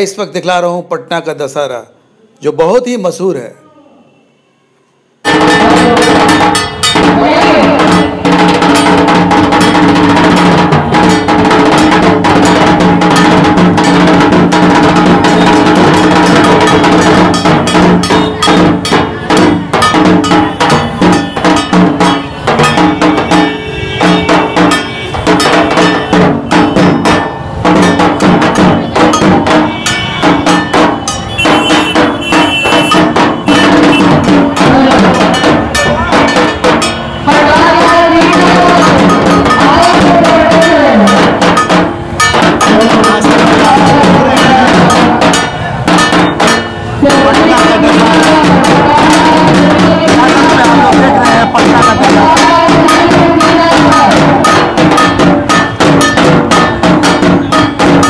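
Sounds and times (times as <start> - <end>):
drums beaten fast: 5.2 - 58.0.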